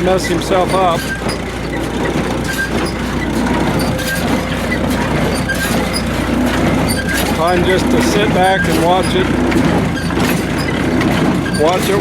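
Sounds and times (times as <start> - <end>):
hay baler clattering: 0.0 - 12.0
tractor engine hum: 0.0 - 12.0.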